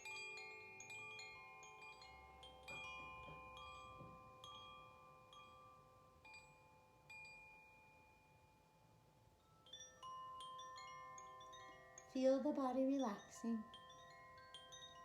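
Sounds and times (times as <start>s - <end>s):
faint metal chimes ringing: 0.0s - 15.0s.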